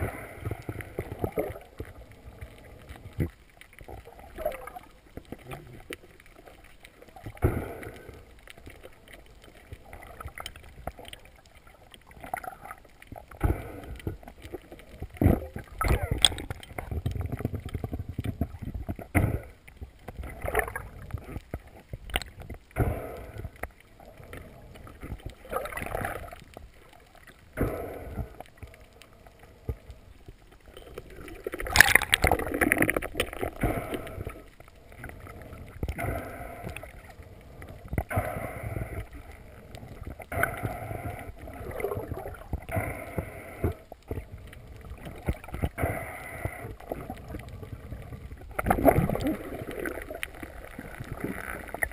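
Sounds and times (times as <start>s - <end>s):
muffled underwater water rushes: 0.0s - 51.9s.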